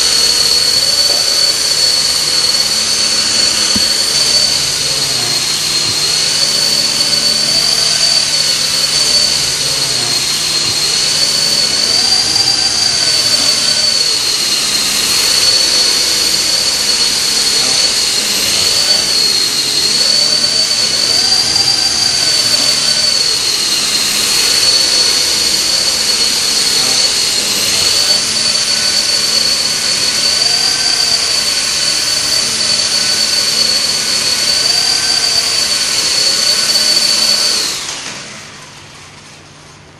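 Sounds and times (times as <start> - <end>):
model helicopter high-pitched whine: 0.0 - 39.9.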